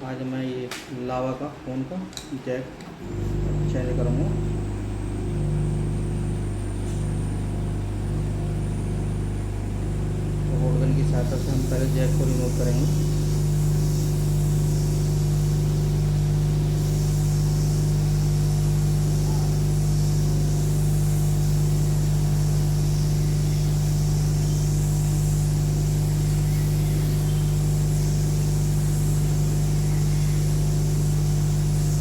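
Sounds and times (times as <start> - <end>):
electrical hum: 0.0 - 32.0
hot air gun hissing: 3.0 - 32.0.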